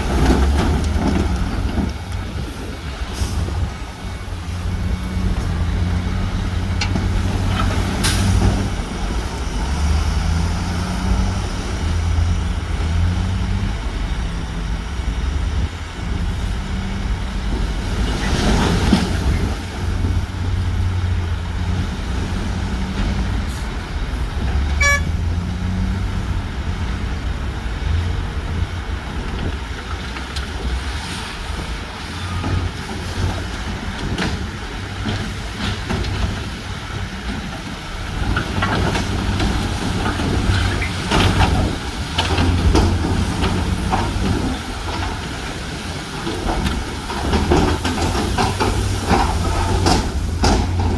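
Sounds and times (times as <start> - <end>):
heavy diesel engines rumbling: 0.0 - 50.9.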